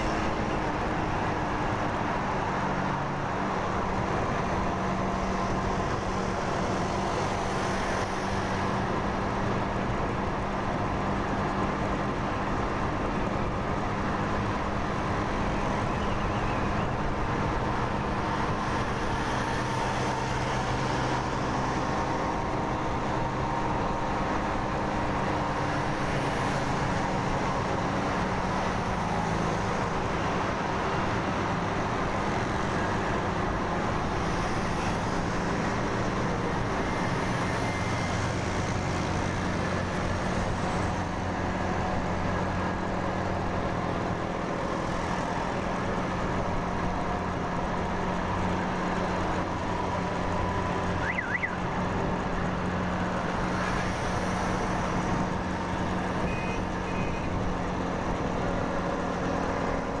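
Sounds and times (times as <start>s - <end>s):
surrounding traffic: 0.0s - 60.0s
wind and road noise: 0.0s - 60.0s.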